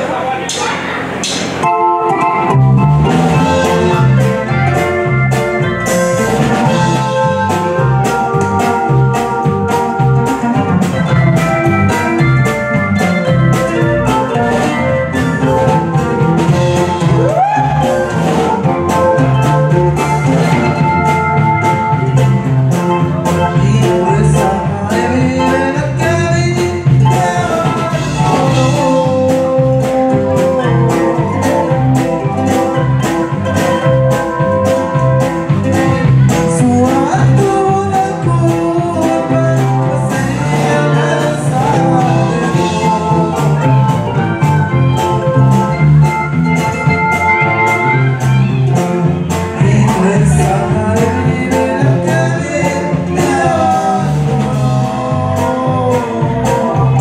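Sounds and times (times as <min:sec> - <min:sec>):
accordion melody: 0:00.0 - 0:57.0
electric bass: 0:00.0 - 0:57.0
guitar: 0:00.0 - 0:57.0
steady drum beat: 0:00.0 - 0:57.0.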